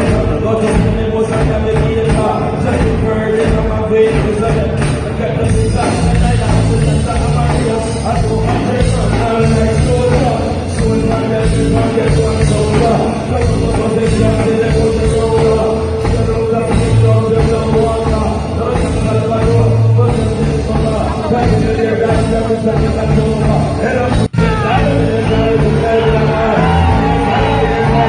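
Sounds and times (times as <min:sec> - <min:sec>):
heavy bass notes: 0:00.0 - 0:28.0
live reggae band: 0:00.0 - 0:28.0
person singing: 0:00.0 - 0:28.0.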